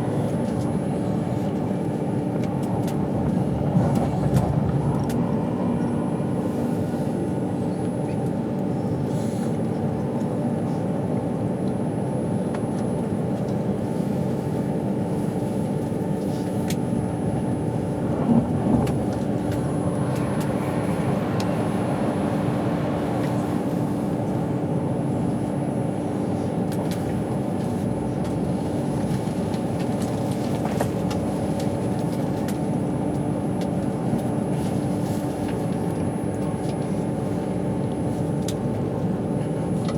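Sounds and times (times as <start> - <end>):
train interior rumble: 0.0 - 39.9.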